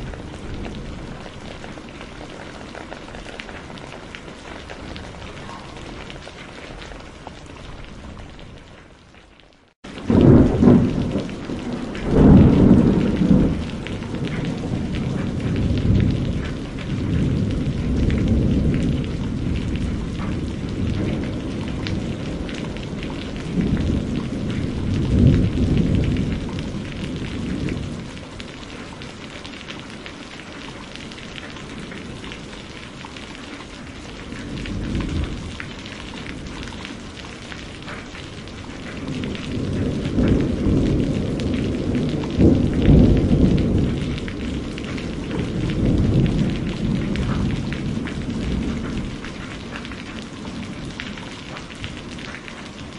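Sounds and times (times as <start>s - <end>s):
rolling thunder: 0.0s - 8.6s, 9.8s - 29.1s, 33.9s - 52.9s
steady rain: 0.0s - 52.9s.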